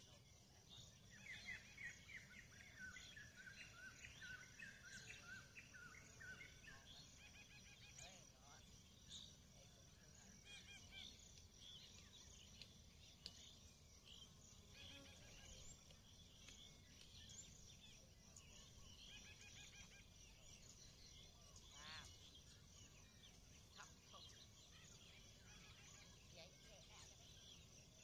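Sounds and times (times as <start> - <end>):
faint birdsong: 0.0 - 28.0.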